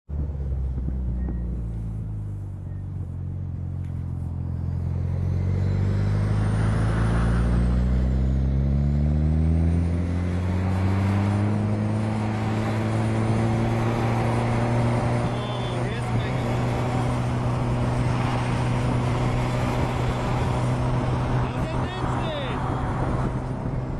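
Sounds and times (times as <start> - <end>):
truck engine revving: 4.3 - 23.9.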